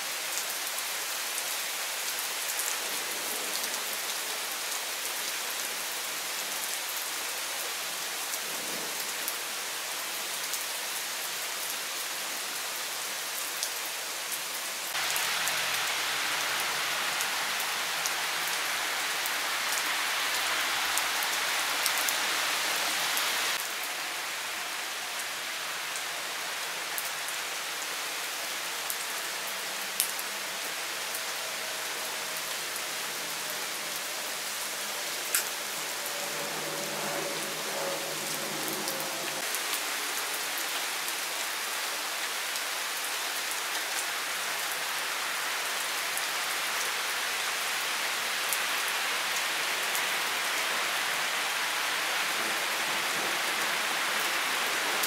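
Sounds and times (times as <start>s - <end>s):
rain falling on trees: 0.0s - 55.0s
rain splashing into water: 0.0s - 55.0s
rain splashing on wet paving: 0.0s - 55.0s.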